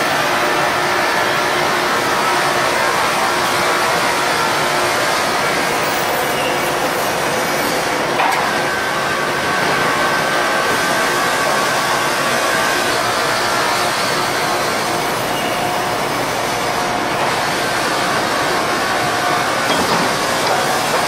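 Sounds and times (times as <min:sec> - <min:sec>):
machinery running: 0:00.0 - 0:21.0.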